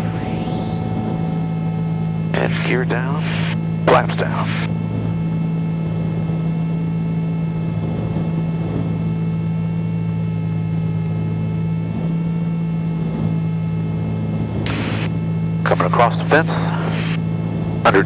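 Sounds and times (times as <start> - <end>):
piston aircraft engines droning: 0.0 - 18.0.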